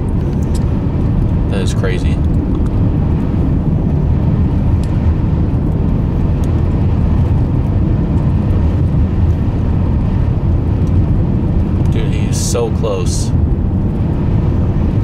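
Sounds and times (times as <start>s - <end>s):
wind noise: 0.0s - 15.0s.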